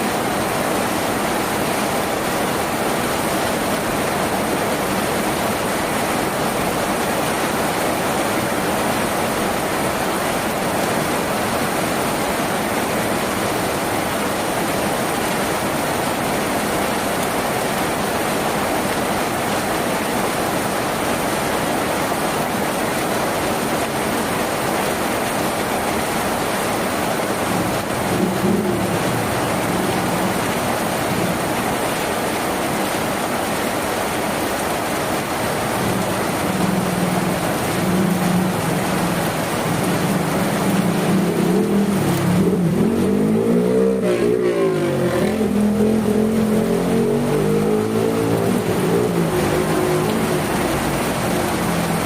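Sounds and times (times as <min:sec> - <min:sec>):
rain on a tin roof: 0:00.0 - 0:52.0.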